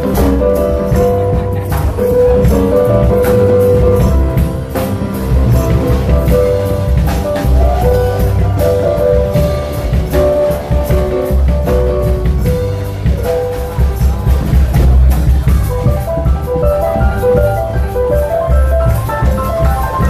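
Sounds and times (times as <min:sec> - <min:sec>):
band playing instrumental: 0:00.0 - 0:20.0
percussion beat: 0:00.0 - 0:20.0.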